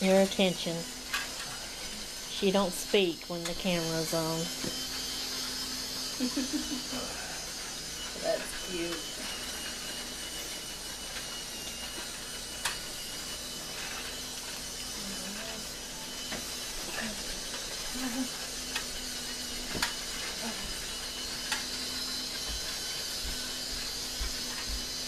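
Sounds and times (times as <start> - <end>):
toy train whirring: 0.0 - 25.0.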